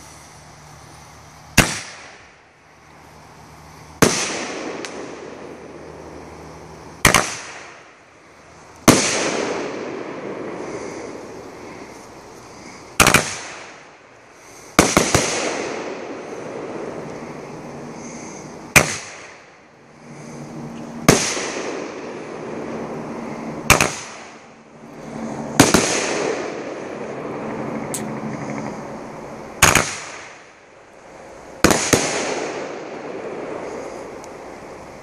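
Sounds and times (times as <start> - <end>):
firework bangs with hiss: 0.0 - 27.4, 29.5 - 35.0.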